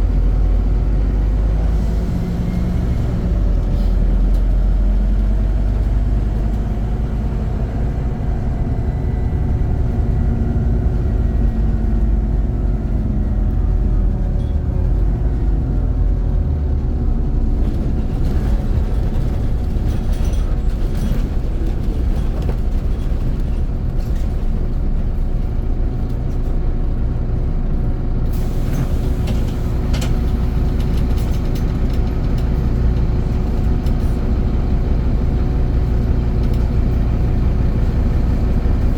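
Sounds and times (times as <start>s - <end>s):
bus engine rumbling: 0.0s - 38.9s.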